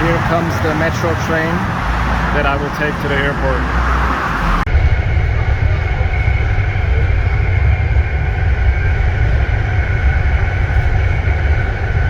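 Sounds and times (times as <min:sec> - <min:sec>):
high-pitched train whine: 0:00.0 - 0:12.0
metro train rumbling on rails: 0:00.0 - 0:12.0.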